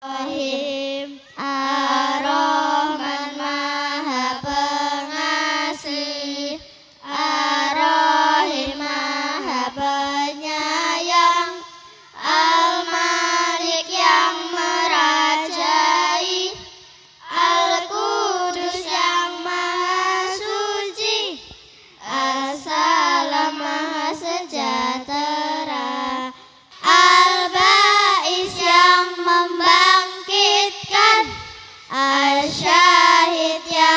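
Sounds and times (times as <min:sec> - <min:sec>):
children singing: 0:00.0 - 0:33.9.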